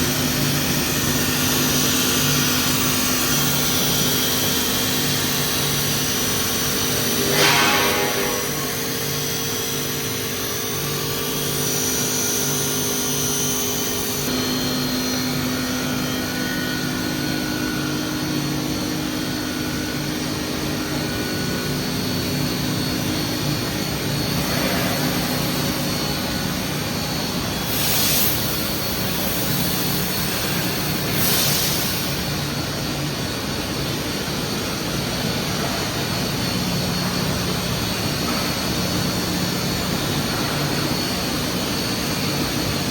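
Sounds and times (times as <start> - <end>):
tube mill machine hum: 0.0 - 42.9.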